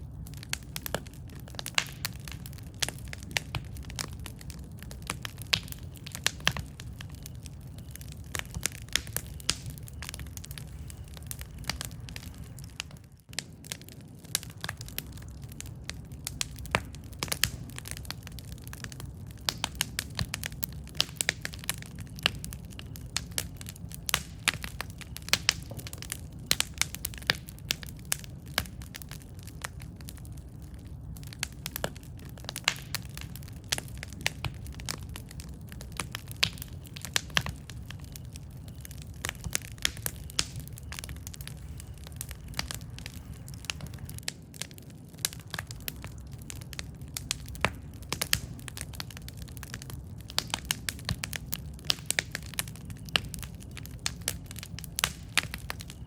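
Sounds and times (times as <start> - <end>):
campfire crackling and popping: 0.0 - 56.0
low rumble of flames: 0.0 - 56.0.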